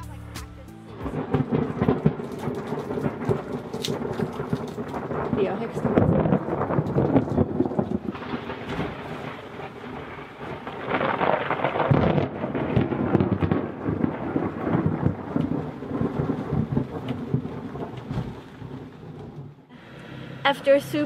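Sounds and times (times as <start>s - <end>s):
deep rumbling: 0.0s - 21.0s
heavy rain drumming on metal deck: 0.9s - 21.0s.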